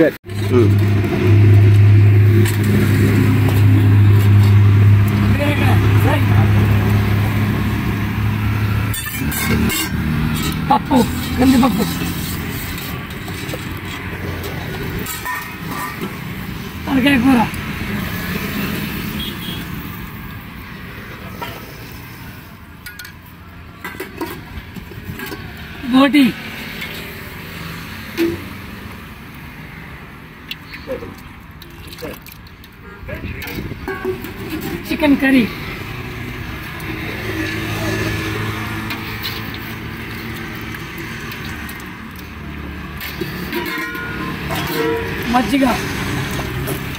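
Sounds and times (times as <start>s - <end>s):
steady street hum: 0.0s - 46.9s.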